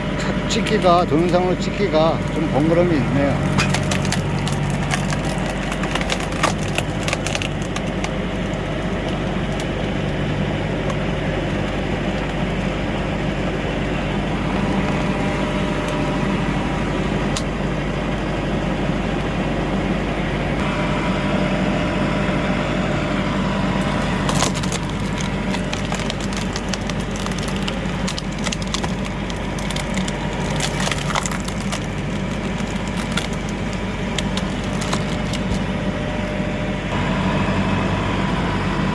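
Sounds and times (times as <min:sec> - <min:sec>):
wood cracking and splitting: 0:00.0 - 0:19.4, 0:20.4 - 0:37.0
tractor engine running: 0:00.0 - 0:38.9.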